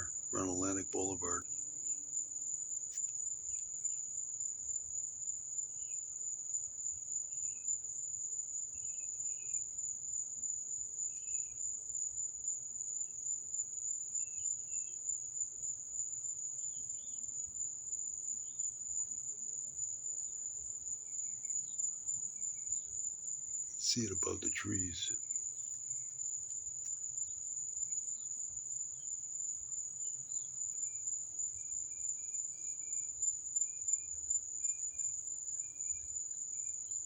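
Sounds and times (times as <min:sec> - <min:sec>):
night insects trilling: 0:00.0 - 0:37.0.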